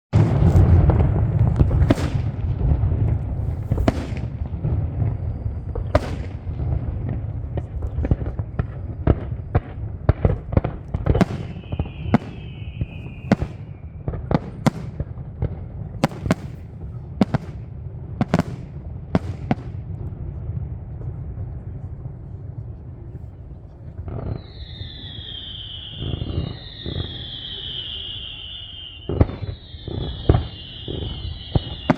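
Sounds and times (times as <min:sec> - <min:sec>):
firework bangs: 0:00.1 - 0:22.0, 0:24.0 - 0:31.9
whistling firework: 0:00.2 - 0:31.9.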